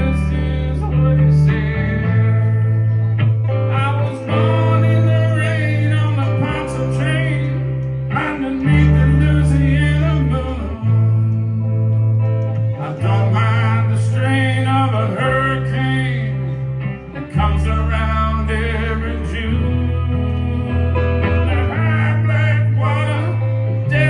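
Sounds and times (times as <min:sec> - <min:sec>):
live country blues band: 0:00.0 - 0:24.0
sliding lead guitar line: 0:00.0 - 0:24.0
steady bass notes: 0:00.0 - 0:24.0.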